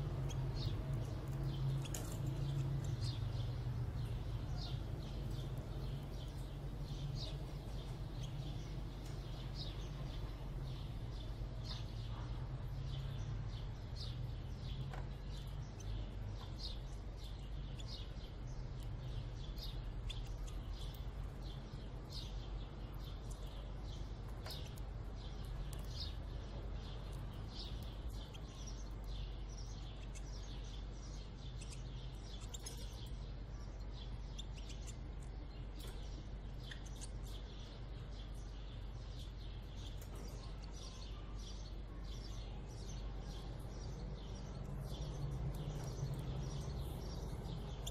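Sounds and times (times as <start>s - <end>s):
constant low hum: 0.0s - 47.9s
finches chirping: 0.0s - 47.9s.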